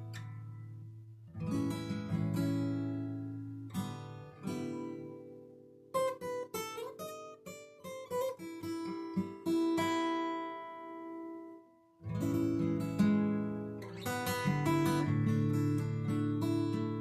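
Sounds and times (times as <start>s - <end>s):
acoustic guitar picked notes: 0.0s - 17.0s.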